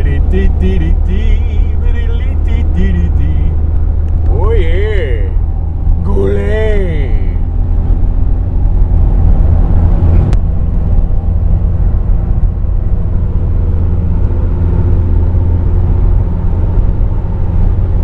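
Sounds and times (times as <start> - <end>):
car engine and road drone: 0.0 - 18.0.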